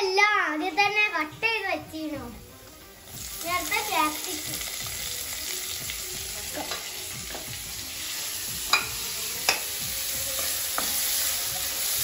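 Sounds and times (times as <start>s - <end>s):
vegetables sizzling in oil: 1.9s - 12.0s.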